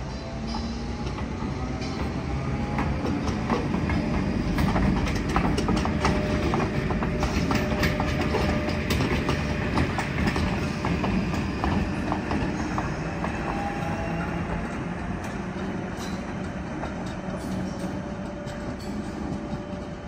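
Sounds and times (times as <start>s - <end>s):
train rumbling past: 0.0s - 20.0s
train wheels clicking on rail joints: 0.0s - 20.0s.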